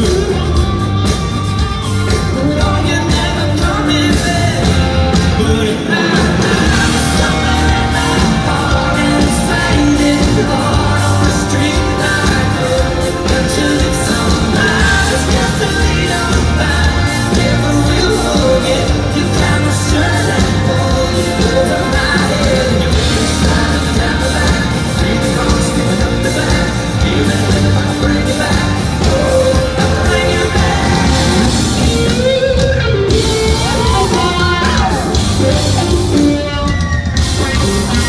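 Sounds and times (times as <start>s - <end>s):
man singing lead vocal: 0.0s - 1.0s, 2.1s - 38.0s
live rock band playing: 0.0s - 38.0s.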